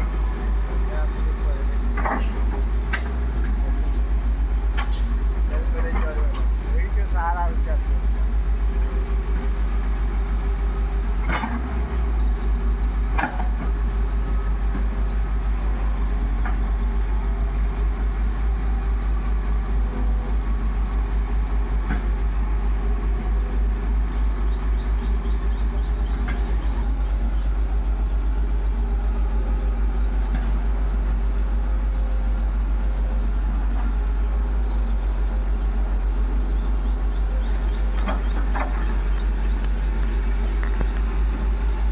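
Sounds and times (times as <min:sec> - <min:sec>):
diesel machinery engine rumbling: 0:00.0 - 0:41.9.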